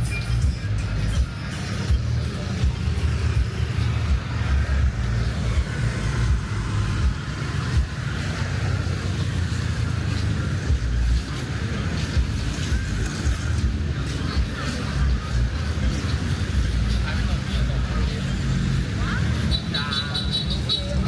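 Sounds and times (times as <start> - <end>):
cars passing: 0.0 - 21.0
heavy low traffic rumble: 0.0 - 21.0.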